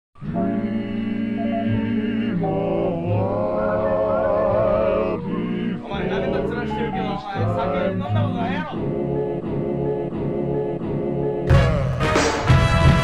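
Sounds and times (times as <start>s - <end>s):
background music with held chords: 0.2s - 13.0s.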